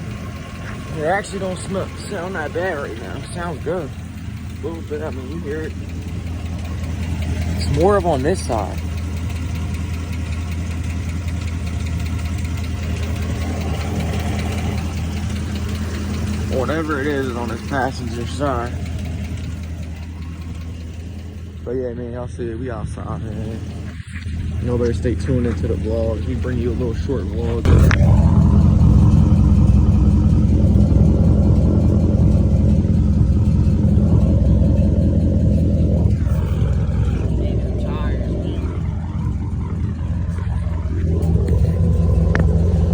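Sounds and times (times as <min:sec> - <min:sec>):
engine idling with light tick: 0:00.0 - 0:42.9.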